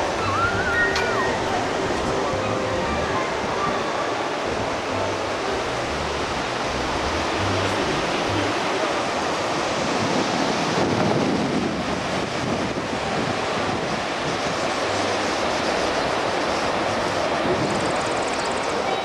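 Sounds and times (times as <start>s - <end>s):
wind buffeting microphone: 0.0s - 18.8s
surf washing onto beach: 0.0s - 19.0s.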